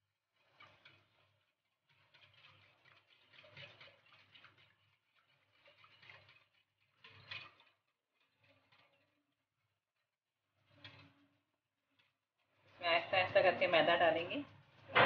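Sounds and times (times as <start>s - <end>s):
whisk scraping glass bowl: 0.2s - 14.7s.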